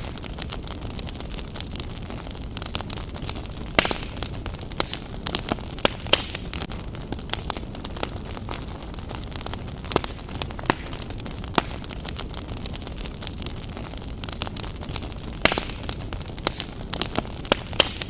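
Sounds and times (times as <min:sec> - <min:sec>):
logs crackling in fireplace: 0:00.0 - 0:18.0
loud fire pops: 0:00.0 - 0:18.0
low fire rumble: 0:00.0 - 0:18.0.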